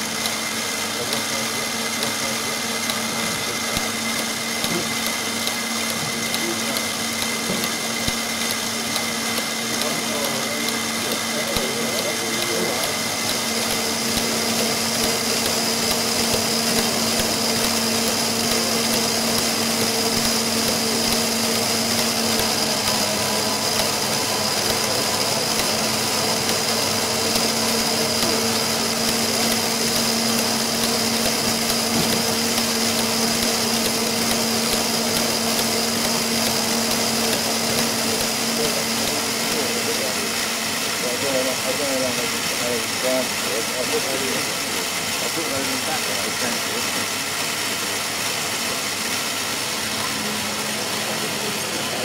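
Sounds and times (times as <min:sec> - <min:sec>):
model engine mechanical whirr: 0:00.0 - 0:52.0.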